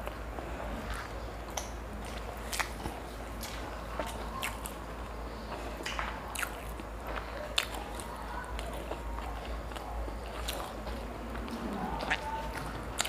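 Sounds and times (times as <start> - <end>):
chewing with wet clicks: 0.0 - 13.0
low steady hum: 0.0 - 13.0.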